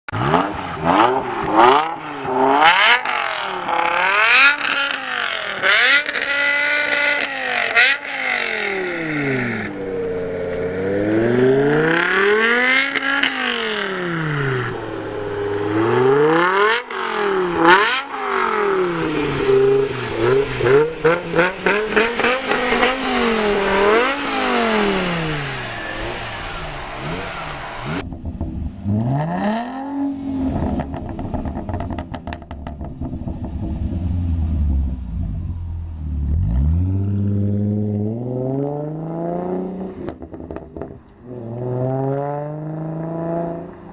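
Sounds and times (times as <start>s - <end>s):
car engine revving: 0.0s - 43.9s
exhaust crackles: 0.1s - 39.0s.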